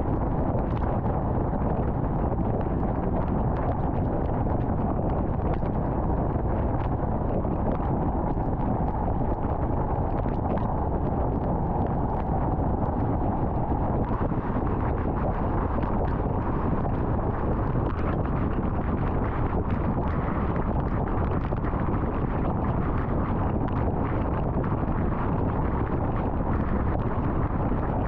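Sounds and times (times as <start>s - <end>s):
road and wind noise: 0.0s - 28.0s.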